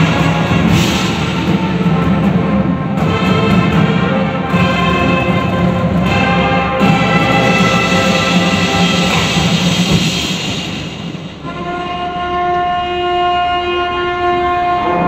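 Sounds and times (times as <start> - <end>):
brass sustained chords: 0.0 - 15.0
marching percussion: 0.0 - 15.0.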